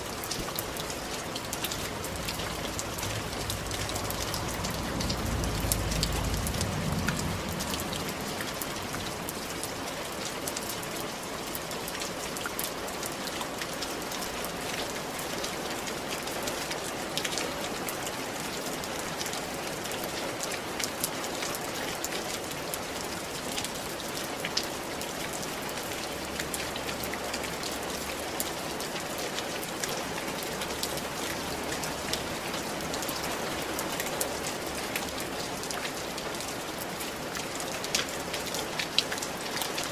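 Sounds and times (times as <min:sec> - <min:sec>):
rain on a tiled roof: 0:00.0 - 0:39.9.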